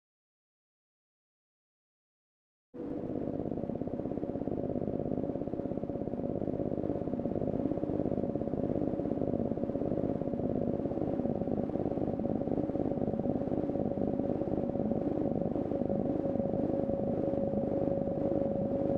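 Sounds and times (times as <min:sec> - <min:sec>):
buzzing synthesized drone: 0:02.8 - 0:18.9.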